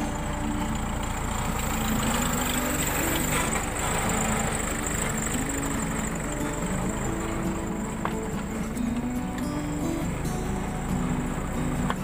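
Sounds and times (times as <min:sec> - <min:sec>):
diesel engine driving past: 0:00.0 - 0:12.0.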